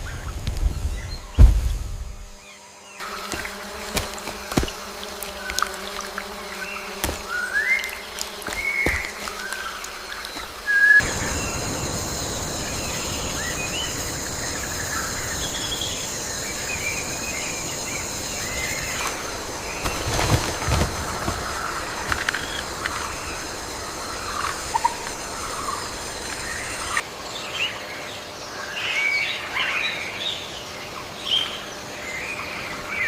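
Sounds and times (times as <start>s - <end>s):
high insect buzz: 0.0s - 30.5s.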